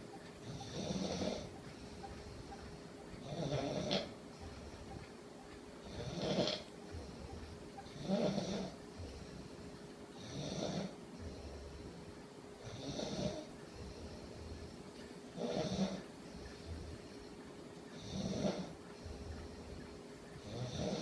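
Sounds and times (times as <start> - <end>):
quiet breathing: 0.0 - 21.0.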